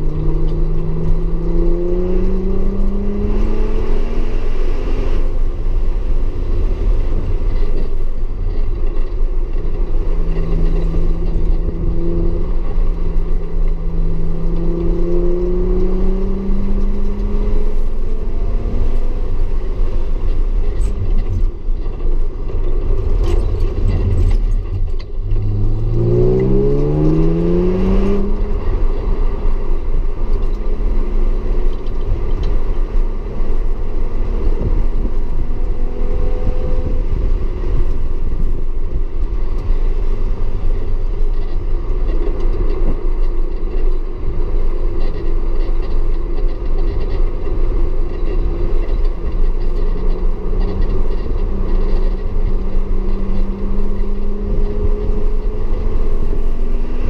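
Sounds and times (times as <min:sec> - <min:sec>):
car engine accelerating: 0:00.0 - 0:57.0
low rumble: 0:00.0 - 0:57.0.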